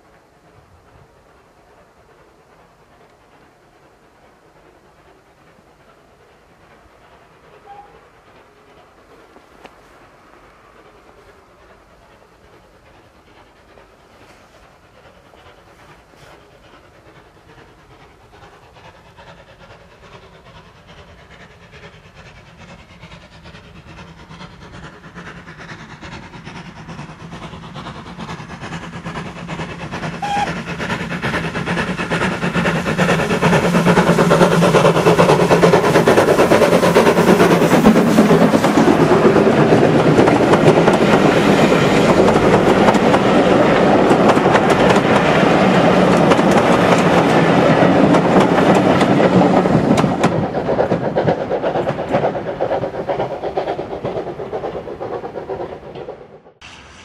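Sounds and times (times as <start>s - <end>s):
carriages rumbling on rails: 0.0s - 57.0s
steam locomotive exhaust beats: 0.0s - 57.0s.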